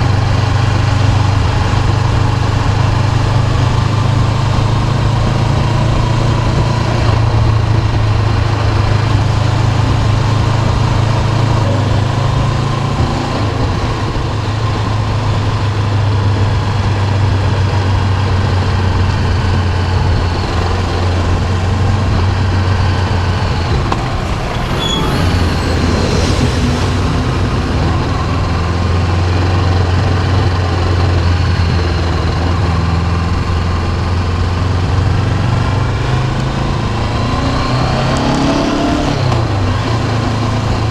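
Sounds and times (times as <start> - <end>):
motorcycle engine running: 0.0 - 40.9
road noise: 0.0 - 40.9
wind noise: 0.0 - 40.9.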